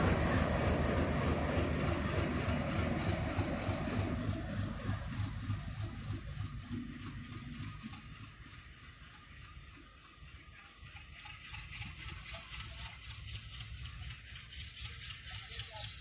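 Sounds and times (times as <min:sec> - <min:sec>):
low train rumble: 0:00.0 - 0:16.0
train wheels clattering on track: 0:00.0 - 0:16.0.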